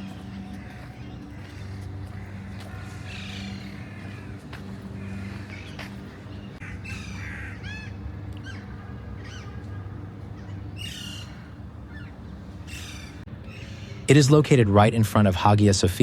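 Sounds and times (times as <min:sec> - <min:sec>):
steady low drone: 0:00.0 - 0:14.9
birds calling: 0:00.0 - 0:15.3.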